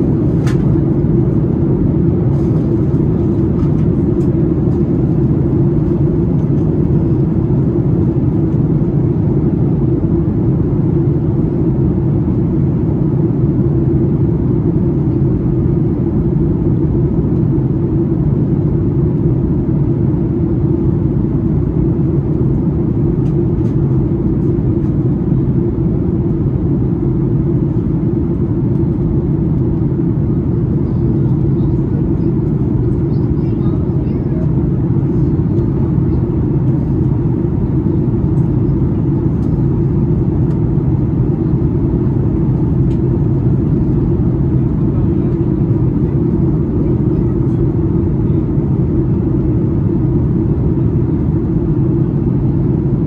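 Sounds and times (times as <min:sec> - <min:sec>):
airplane cabin drone: 0:00.0 - 0:53.0.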